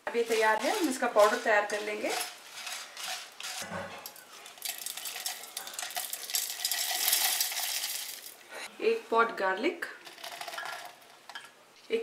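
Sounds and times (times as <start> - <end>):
dry spices rattling and clinking: 0.0 - 8.4, 10.0 - 11.5.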